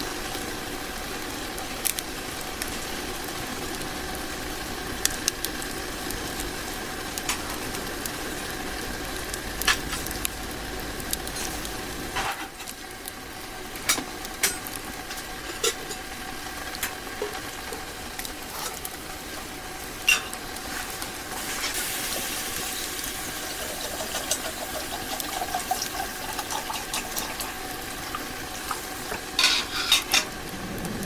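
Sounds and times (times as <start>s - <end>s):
food sizzling in a pan: 0.0s - 30.9s.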